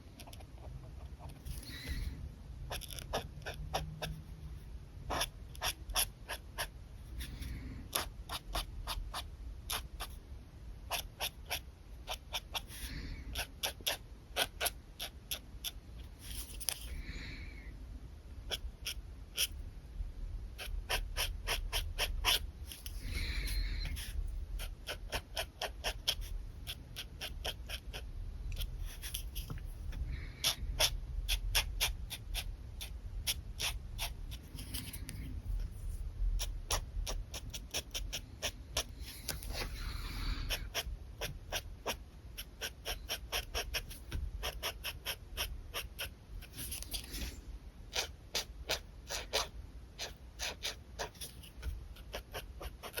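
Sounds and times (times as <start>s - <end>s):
pen scratching on paper: 0.2s - 1.9s, 2.7s - 4.3s, 5.0s - 10.2s, 10.8s - 16.9s, 18.5s - 19.6s, 20.6s - 29.6s, 30.4s - 53.0s.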